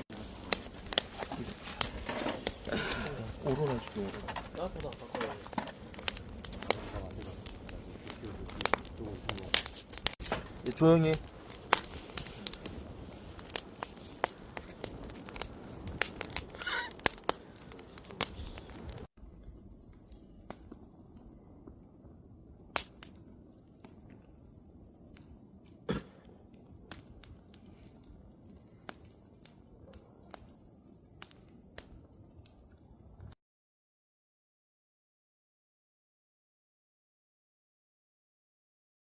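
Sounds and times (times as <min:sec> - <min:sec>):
campfire crackling and popping: 0:00.0 - 0:33.4.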